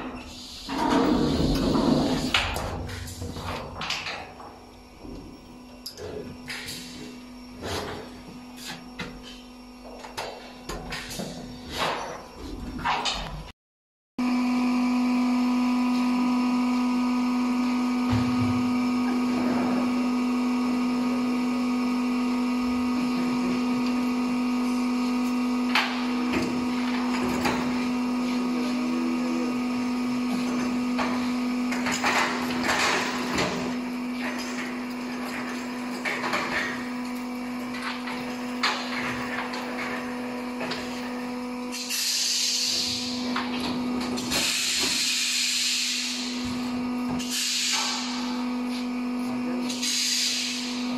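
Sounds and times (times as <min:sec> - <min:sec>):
machinery humming: 0:00.0 - 0:13.2, 0:14.2 - 0:50.9.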